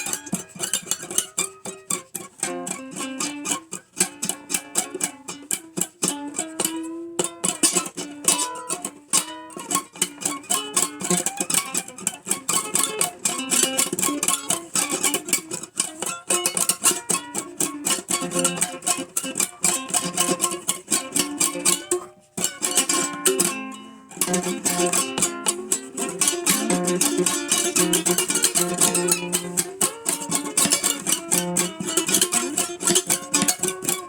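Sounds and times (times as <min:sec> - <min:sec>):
acoustic plucked string instrument: 0:00.0 - 0:34.0.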